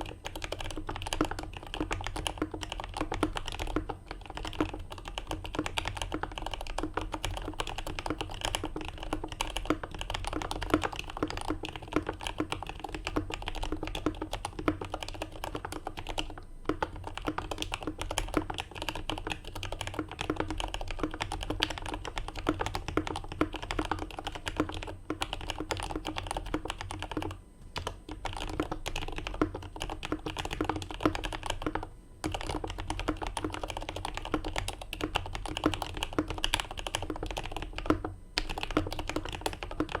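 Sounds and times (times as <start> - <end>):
mechanical keyboard typing clacks: 0.0 - 40.0.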